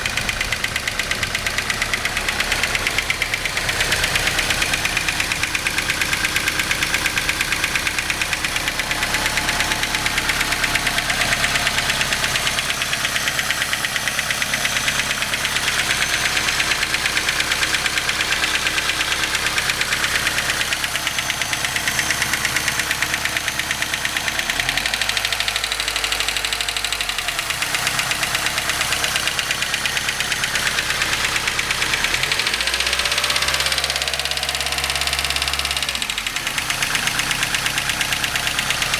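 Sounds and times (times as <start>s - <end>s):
car engine running: 0.0s - 38.9s
fast regular engine knocking: 0.0s - 38.9s.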